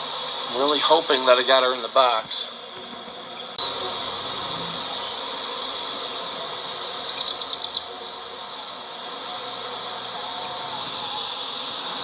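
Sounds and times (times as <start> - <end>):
high-pitched insect drone: 2.1 - 12.0.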